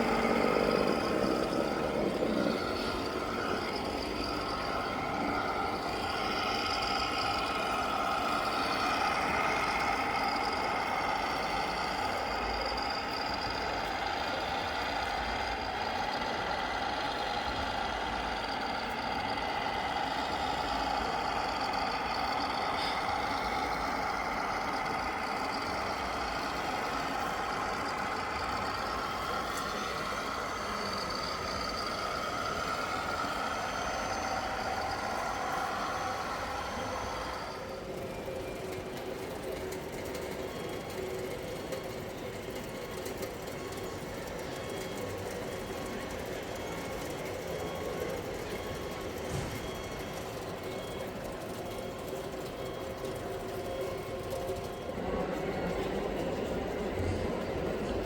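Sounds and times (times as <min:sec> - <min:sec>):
model truck engine idling: 0:00.0 - 0:58.0
whirring undertone: 0:00.0 - 0:58.0.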